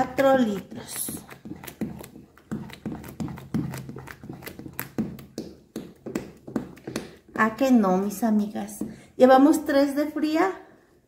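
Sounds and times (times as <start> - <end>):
spoon stirring thick liquid: 0.0 - 9.2.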